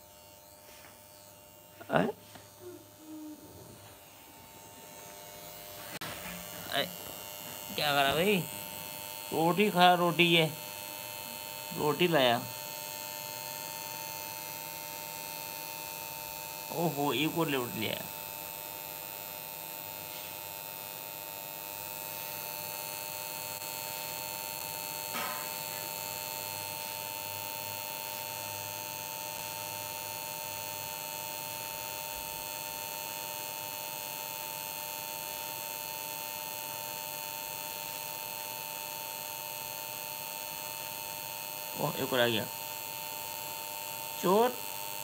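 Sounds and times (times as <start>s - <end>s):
steady electrical hum: 0.0s - 45.0s.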